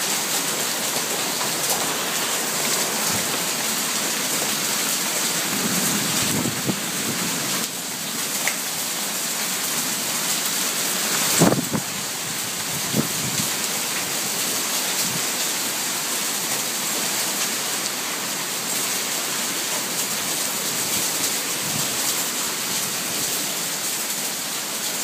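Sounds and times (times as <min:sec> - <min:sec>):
hail and heavy rain: 0:00.0 - 0:25.0.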